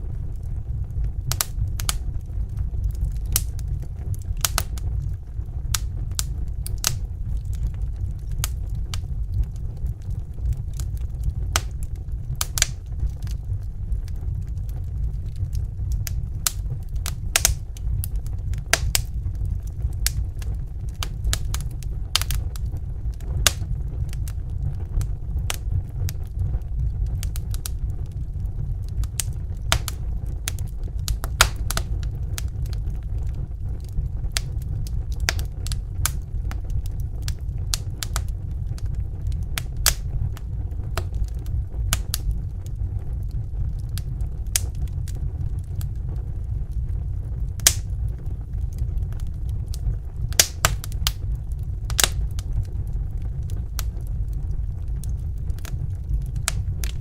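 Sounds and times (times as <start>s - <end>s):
low rumble of burning: 0.0s - 57.0s
wood fire crackling and popping: 0.0s - 57.0s.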